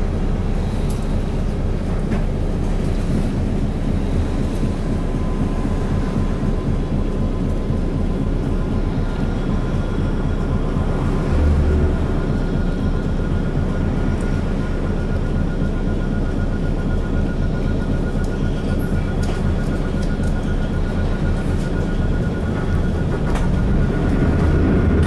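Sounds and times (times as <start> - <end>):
bus diesel engine drone: 0.0 - 25.0
road noise: 0.0 - 25.0.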